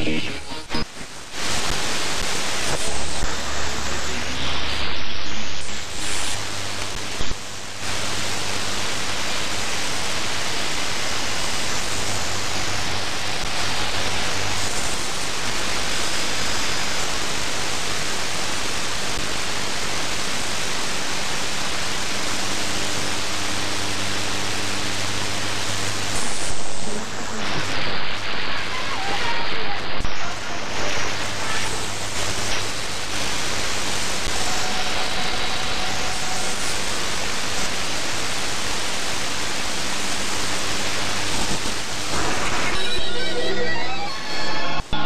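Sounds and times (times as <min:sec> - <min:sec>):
radio static hiss: 0:00.0 - 0:45.0.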